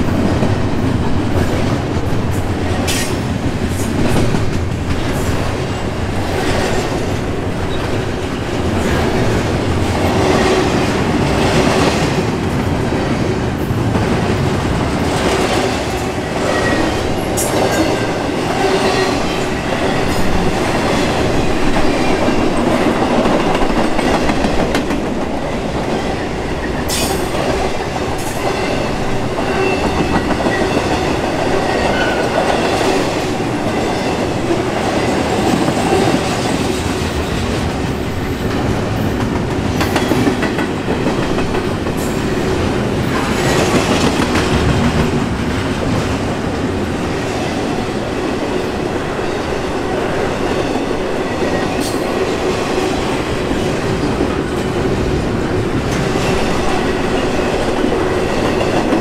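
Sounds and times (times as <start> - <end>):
steel train wheels rumbling on rail: 0.0 - 59.0.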